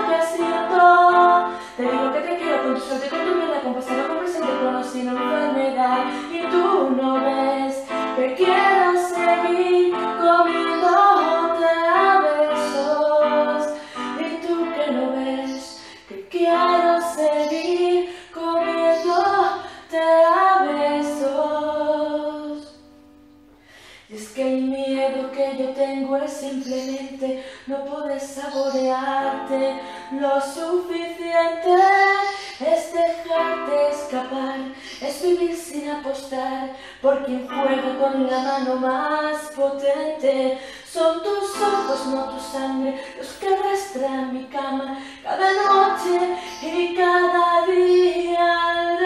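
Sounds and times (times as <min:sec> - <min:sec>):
song with melody and accompaniment: 0:00.0 - 0:49.0.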